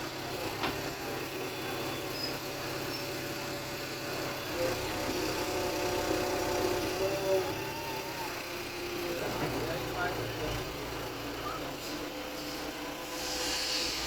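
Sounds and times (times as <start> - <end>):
engine running: 0.0 - 13.2.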